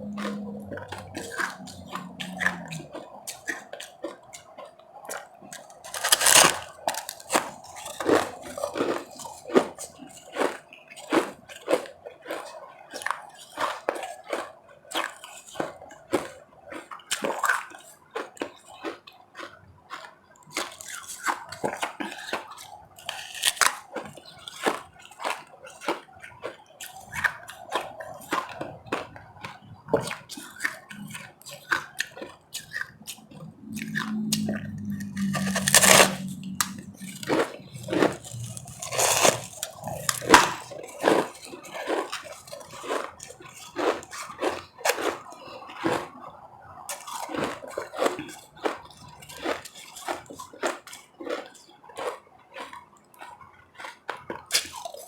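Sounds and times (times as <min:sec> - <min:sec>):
chewing and crunching ice: 0:00.0 - 0:55.0.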